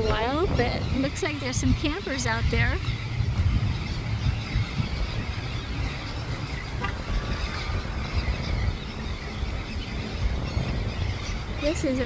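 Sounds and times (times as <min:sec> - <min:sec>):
faint seabird calls: 0:00.0 - 0:12.0
wind buffeting microphone: 0:00.0 - 0:12.0.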